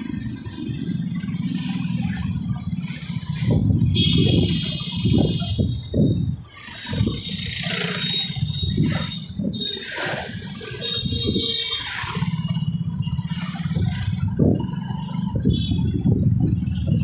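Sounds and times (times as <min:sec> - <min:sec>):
motorcycle engine running: 0:00.0 - 0:17.0
street traffic: 0:00.0 - 0:17.0
wind buffeting microphone: 0:02.0 - 0:12.3, 0:13.0 - 0:17.0.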